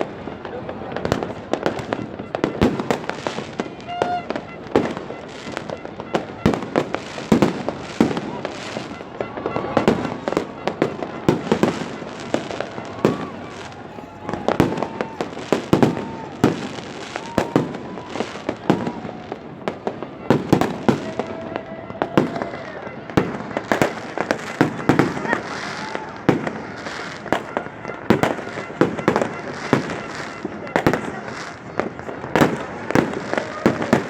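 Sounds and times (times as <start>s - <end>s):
faint fireworks whistling: 0.0s - 34.0s
fireworks bangs and booms: 0.0s - 34.0s.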